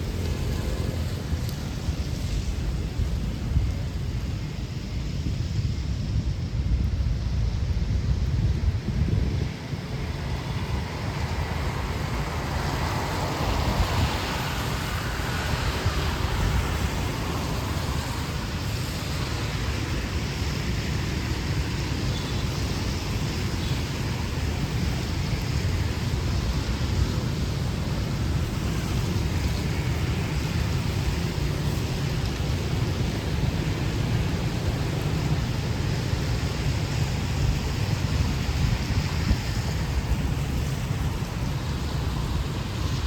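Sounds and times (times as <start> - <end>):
rain hiss: 0.0 - 43.0
traffic: 0.0 - 43.0.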